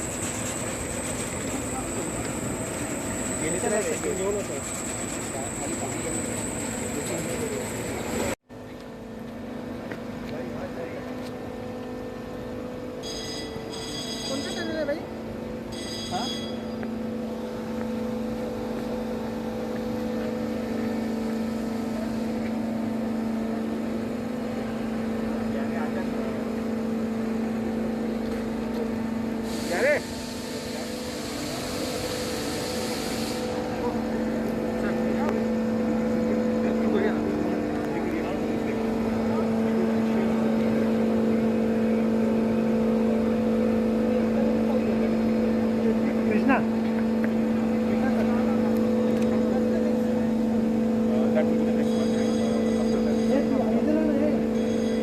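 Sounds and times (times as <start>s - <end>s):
heavy machinery droning: 0.0s - 8.4s, 15.6s - 55.0s.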